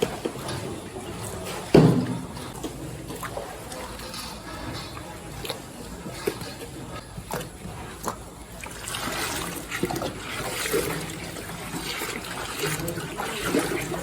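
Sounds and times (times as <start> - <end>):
cow slurping wet feed: 0.0 - 14.0.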